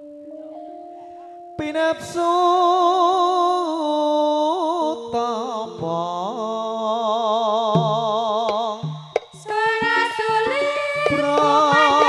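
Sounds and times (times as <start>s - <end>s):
person singing with vibrato: 0.3s - 12.0s.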